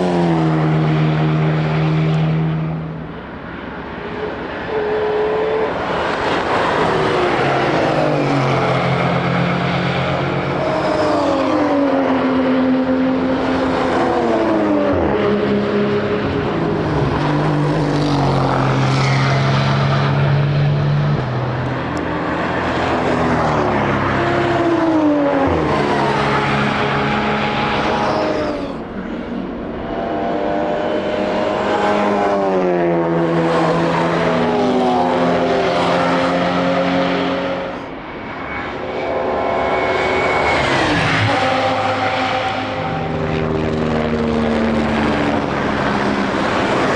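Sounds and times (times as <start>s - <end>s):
race cars passing: 0.0s - 46.9s.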